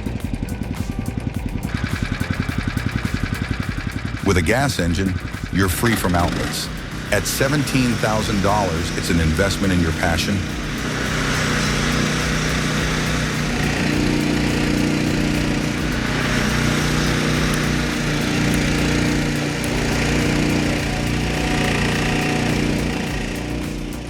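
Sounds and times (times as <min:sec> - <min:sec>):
small gas engine running: 0:00.0 - 0:24.0.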